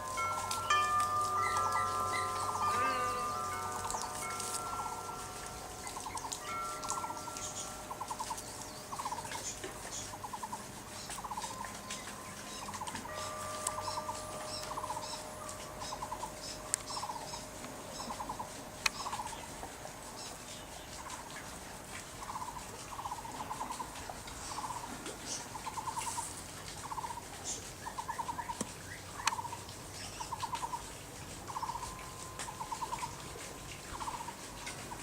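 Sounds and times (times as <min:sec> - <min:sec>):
bird pulsed trill: 0:00.0 - 0:21.4, 0:22.1 - 0:35.0.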